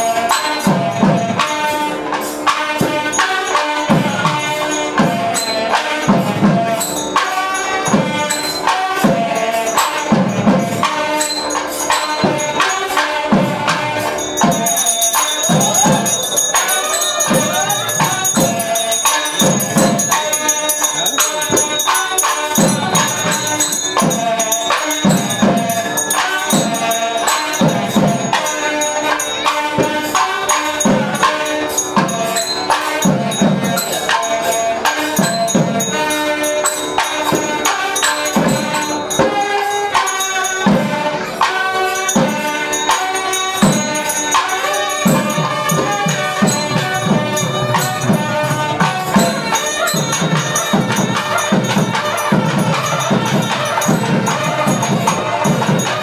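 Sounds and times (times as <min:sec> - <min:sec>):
small percussion strikes: 0:00.0 - 0:56.0
steady drum beat: 0:00.0 - 0:56.0
sustained devotional melody: 0:00.0 - 0:56.0.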